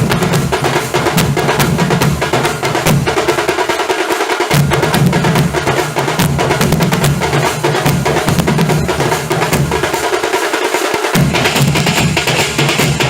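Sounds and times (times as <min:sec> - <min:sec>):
deep drum beats: 0:00.0 - 0:13.0
fast sharp drum strokes: 0:00.0 - 0:13.0.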